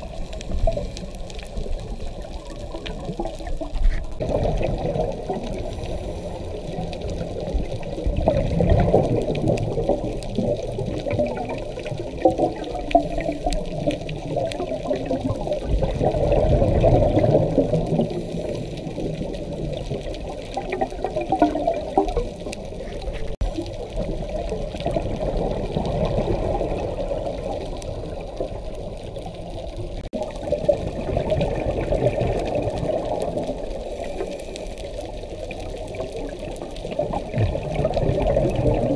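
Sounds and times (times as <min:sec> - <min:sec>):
underwater exhaled bubbles gurgling: 0:00.0 - 0:38.9.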